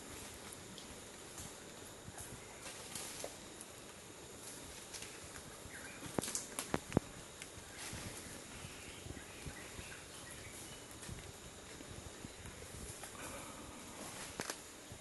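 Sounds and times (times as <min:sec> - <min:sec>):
faint high hiss: 0:00.0 - 0:15.0.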